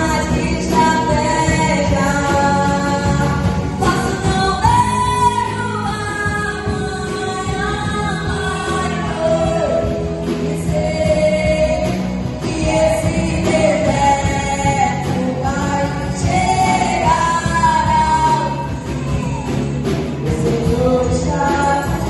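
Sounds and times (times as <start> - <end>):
woman singing: 0.0 - 19.5, 20.2 - 22.0
band playing worship song: 0.0 - 22.0.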